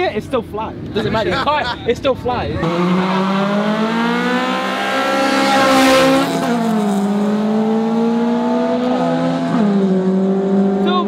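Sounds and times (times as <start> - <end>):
car engines revving hard: 2.0 - 11.0.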